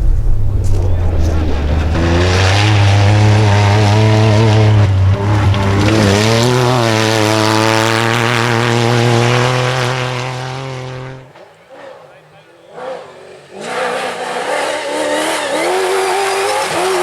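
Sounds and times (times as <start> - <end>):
rally car engine revving hard: 0.0 - 17.0.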